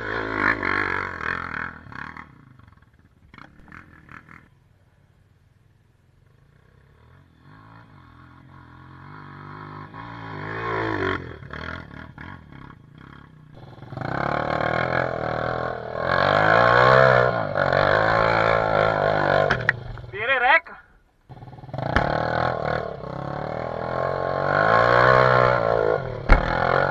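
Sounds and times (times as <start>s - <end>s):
dirt bike engine revving: 0.0s - 4.6s, 6.9s - 20.6s, 21.3s - 26.9s.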